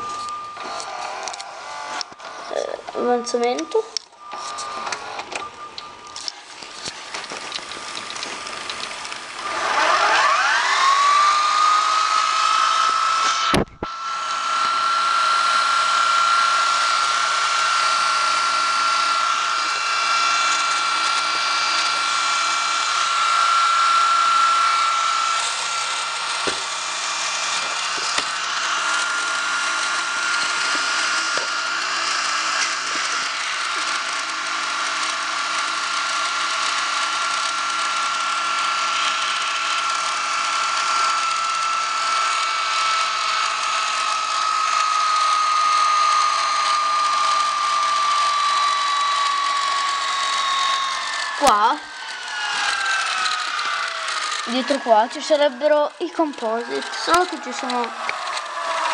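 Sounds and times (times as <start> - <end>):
tape spooling whirr: 0.0 - 58.9
video recorder tape whine: 0.0 - 58.9.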